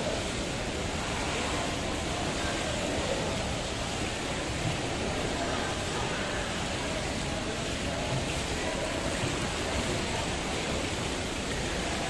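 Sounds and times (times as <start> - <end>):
jacuzzi water and bubbles rushing: 0.0 - 12.0.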